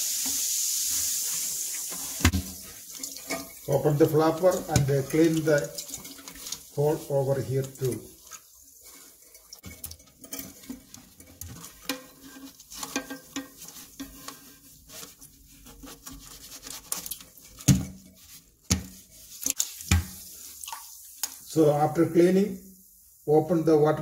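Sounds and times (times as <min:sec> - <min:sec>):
brush scrubbing in water: 0:00.9 - 0:21.0.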